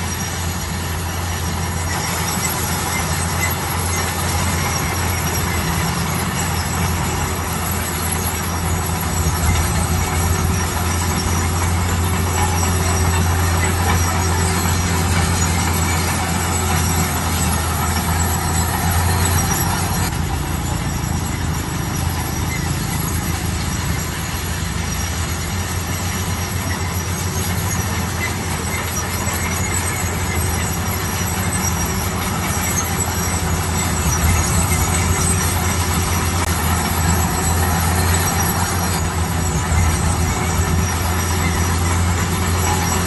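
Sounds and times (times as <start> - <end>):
diesel engine hum: 0.0 - 43.0
machinery clatter and grinding: 0.0 - 43.0.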